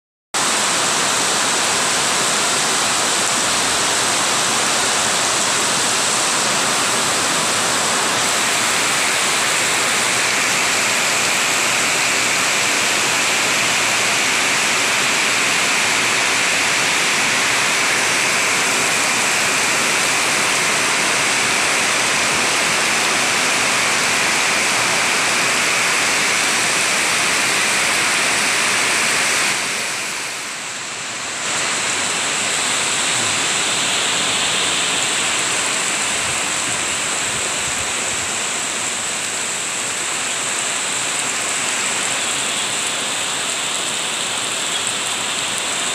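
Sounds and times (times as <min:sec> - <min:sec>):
heavy rain pouring: 0:00.4 - 0:45.9.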